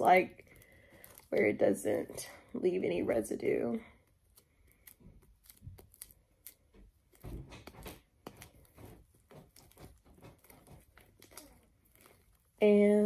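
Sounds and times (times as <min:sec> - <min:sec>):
slime squelching in hands: 0:00.0 - 0:13.0.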